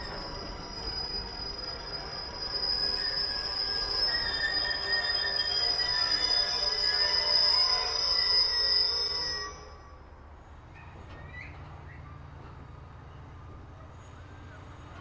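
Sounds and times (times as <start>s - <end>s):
train wheels squealing on rails: 0.0s - 15.0s.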